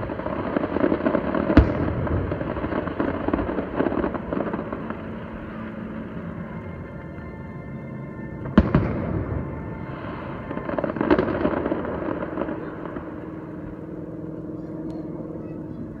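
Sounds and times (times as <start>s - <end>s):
fireworks booming and crackling: 0.0s - 16.0s
lingering rumble: 0.0s - 16.0s.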